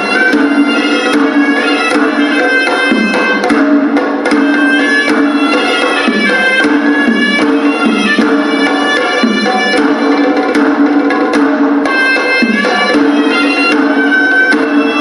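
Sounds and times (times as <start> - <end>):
double-reed pipe melody: 0.0 - 3.6, 4.3 - 10.5, 11.9 - 15.0
drum strokes: 0.0 - 15.0.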